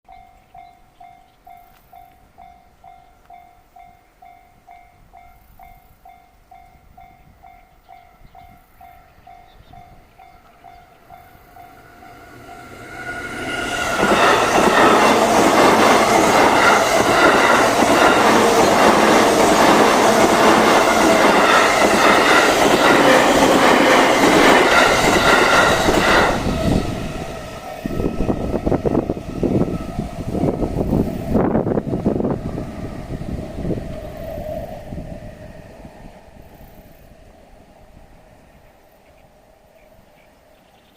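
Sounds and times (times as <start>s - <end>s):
commuter train rushing through: 0.1s - 40.7s.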